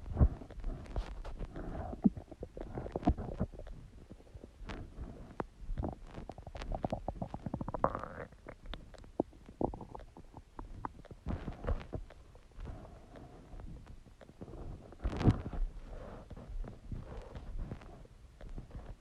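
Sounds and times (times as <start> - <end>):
stomach gurgling and growling: 0.0 - 19.0.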